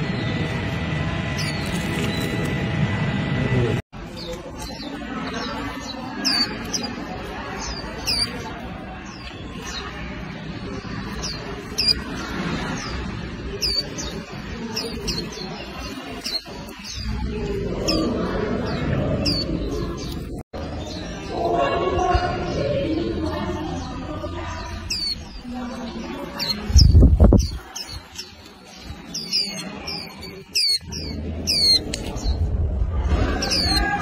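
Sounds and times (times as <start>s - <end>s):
bird high chirps: 4.1s - 32.5s, 33.3s - 34.0s.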